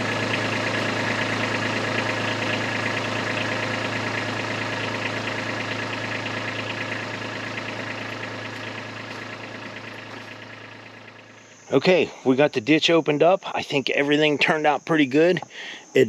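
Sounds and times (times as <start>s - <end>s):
tractor diesel engine running: 0.0s - 15.6s.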